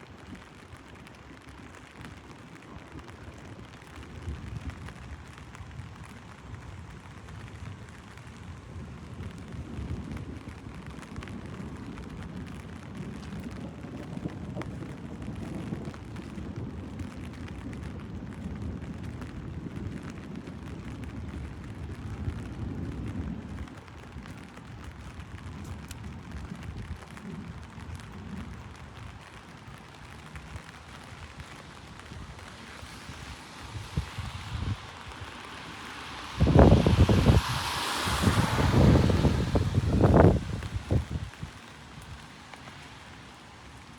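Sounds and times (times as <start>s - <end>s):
heavy rain on an umbrella: 0.0s - 43.9s.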